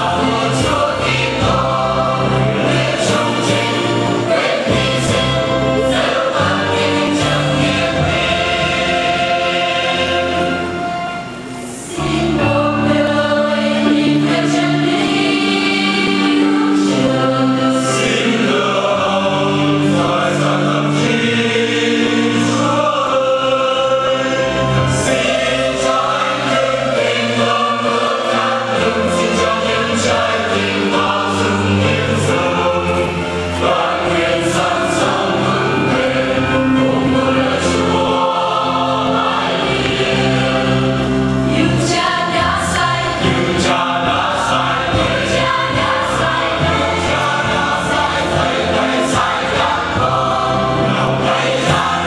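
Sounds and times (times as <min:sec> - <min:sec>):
choir singing a hymn: 0:00.0 - 0:52.0.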